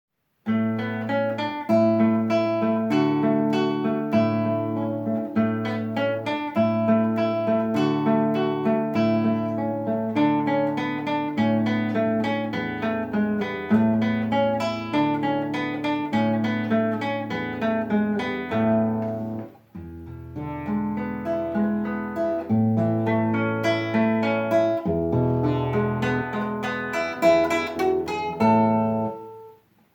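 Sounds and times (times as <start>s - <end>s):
solo classical guitar: 0.4s - 29.9s.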